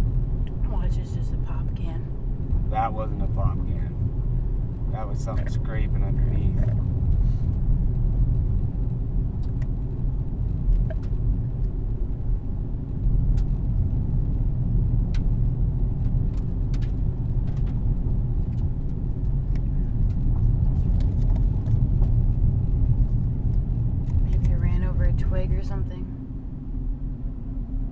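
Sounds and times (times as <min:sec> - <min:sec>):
car engine and road noise: 0:00.0 - 0:27.9.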